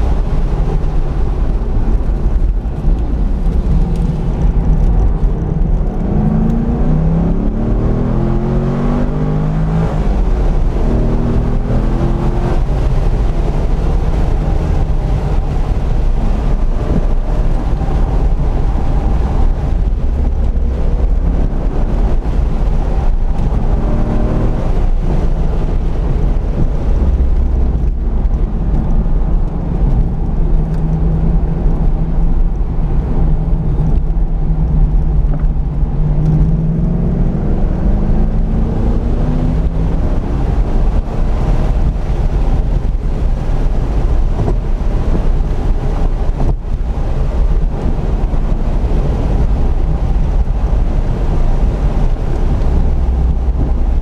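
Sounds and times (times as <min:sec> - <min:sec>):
car engine accelerating: 0:00.0 - 0:54.0
wind noise: 0:00.0 - 0:54.0.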